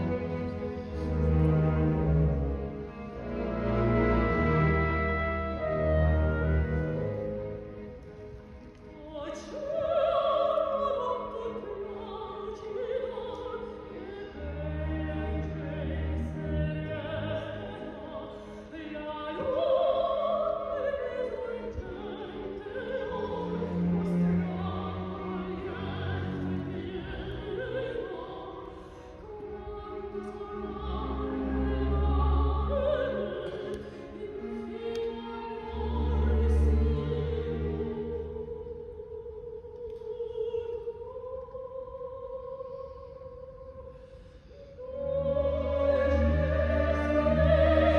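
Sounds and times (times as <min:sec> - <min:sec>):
operatic soprano singing: 0:00.0 - 0:47.9
orchestral strings: 0:00.0 - 0:47.9.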